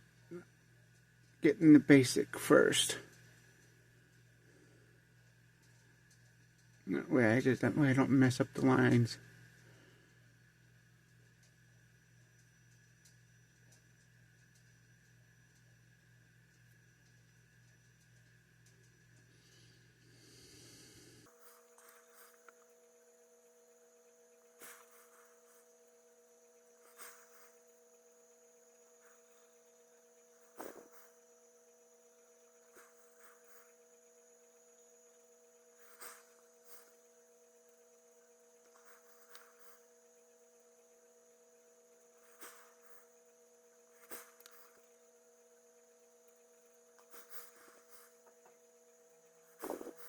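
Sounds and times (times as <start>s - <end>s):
faint electrical hum: 0.0s - 50.0s.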